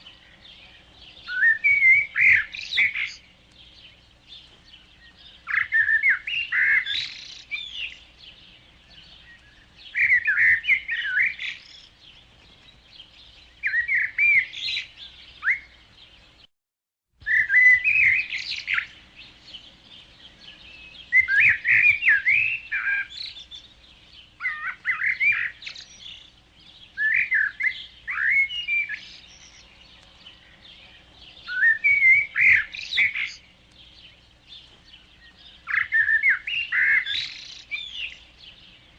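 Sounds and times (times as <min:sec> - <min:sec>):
songbird singing: 0:00.0 - 0:16.5, 0:17.2 - 0:38.9.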